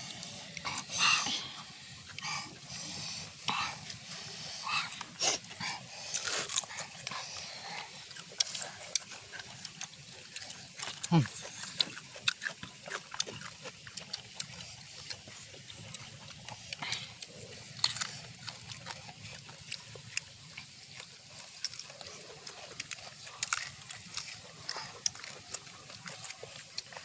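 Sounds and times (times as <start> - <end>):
food being chewed: 0.0 - 27.0.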